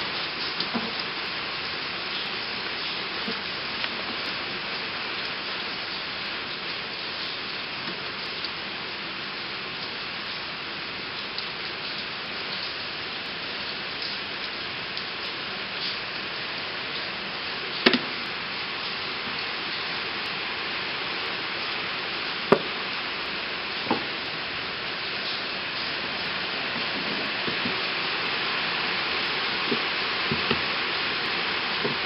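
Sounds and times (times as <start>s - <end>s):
rain hissing: 0.0s - 32.0s.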